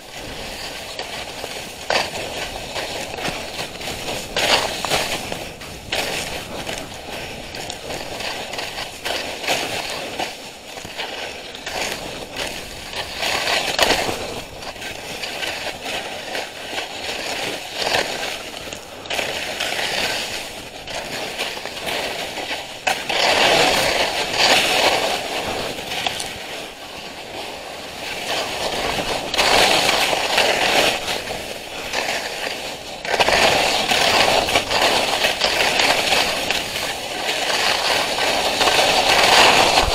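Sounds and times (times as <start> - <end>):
skis scraping over snow: 0.0 - 39.9.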